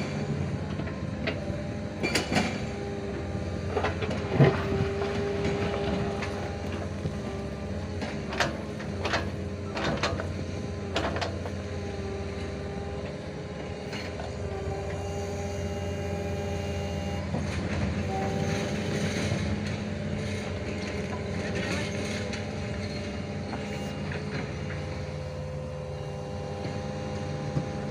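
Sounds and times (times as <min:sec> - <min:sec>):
diesel engine running: 0:00.0 - 0:27.9
held whine: 0:00.0 - 0:27.9.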